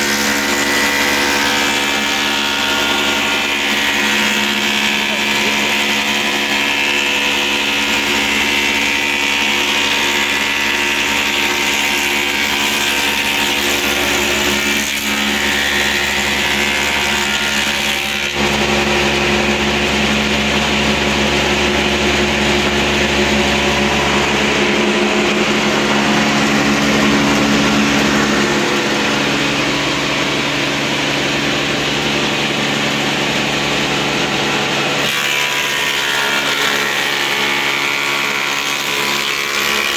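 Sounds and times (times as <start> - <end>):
planer motor hum: 0.0 - 39.9.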